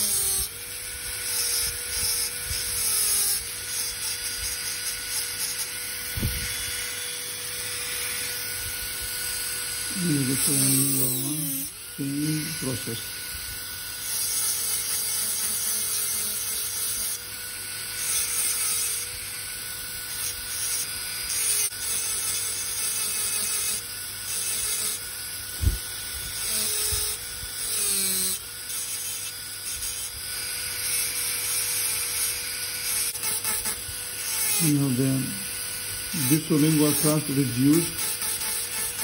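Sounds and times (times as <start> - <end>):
dental drill grinding: 0.0 - 39.0
dental drill whine: 0.0 - 39.0.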